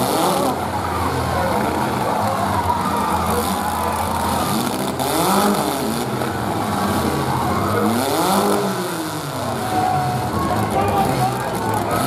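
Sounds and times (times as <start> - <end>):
drone of engines: 0.0 - 12.0
engine revving hard: 0.0 - 12.0.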